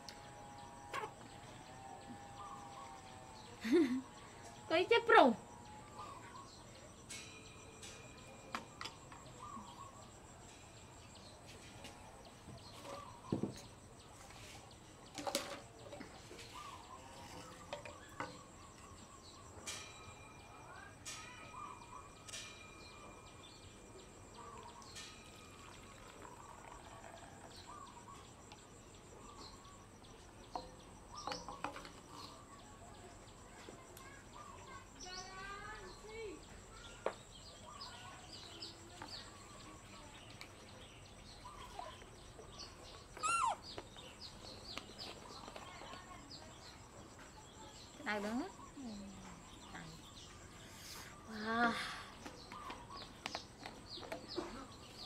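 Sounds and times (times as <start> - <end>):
faint bird chirps: 0.0 - 55.0.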